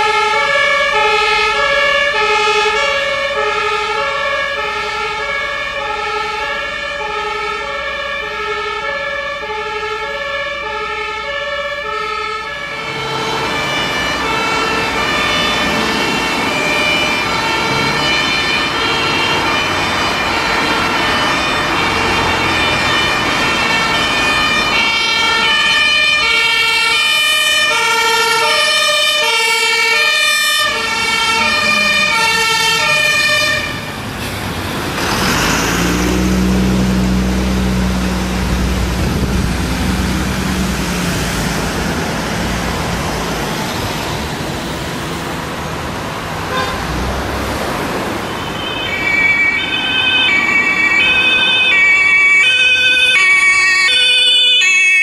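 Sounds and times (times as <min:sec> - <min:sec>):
fire engine two-tone siren: 0:00.0 - 0:55.0
truck engine and tyres rumbling: 0:00.0 - 0:55.0.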